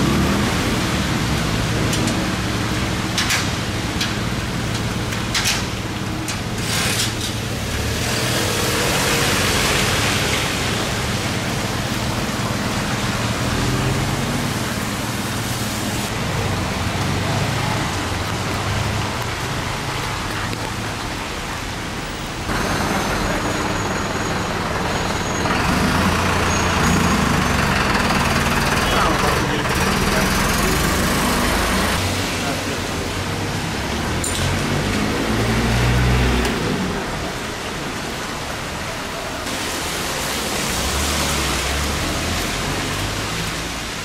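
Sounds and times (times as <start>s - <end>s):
tyres hissing on wet road: 0.0s - 44.0s.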